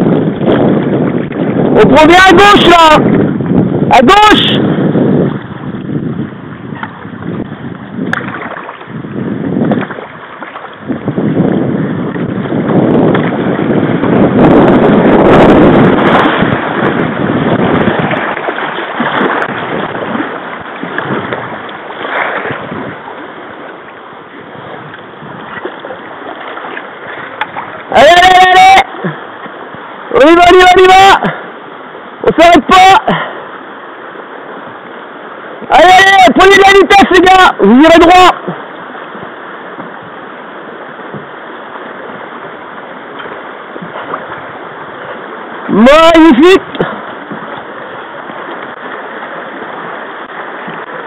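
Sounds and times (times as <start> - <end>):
paddle splashes: 0.0 - 51.0
river rapids rushing: 3.9 - 5.8, 8.2 - 51.0.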